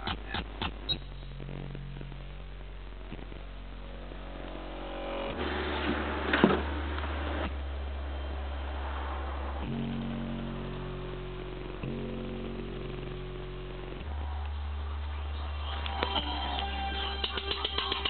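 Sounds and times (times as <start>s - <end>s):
deep subwoofer bass tones: 0.0s - 18.0s.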